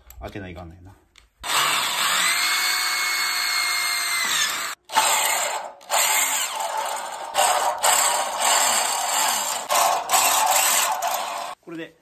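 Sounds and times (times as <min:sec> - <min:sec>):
electric drill boring through steel: 0:01.4 - 0:11.6.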